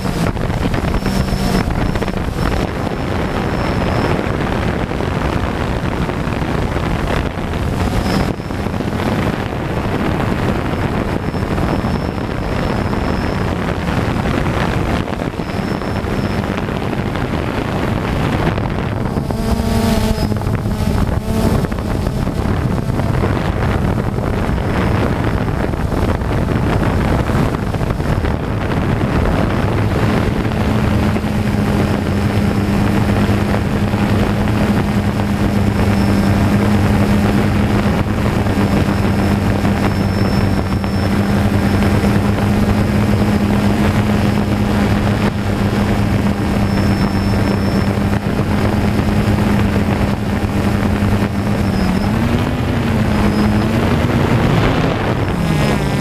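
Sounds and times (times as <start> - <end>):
drone propellers humming: 0.0 - 56.0
wind on microphone: 0.0 - 56.0.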